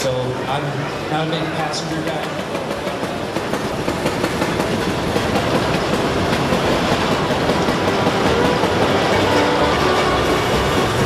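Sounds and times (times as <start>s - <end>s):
wheels clattering over rails: 1.4s - 11.0s.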